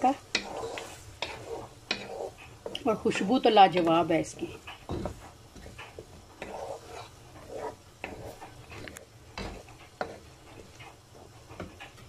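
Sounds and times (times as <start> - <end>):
soft sizzle: 0.0 - 12.0
spatula scraping a pan: 0.0 - 12.0.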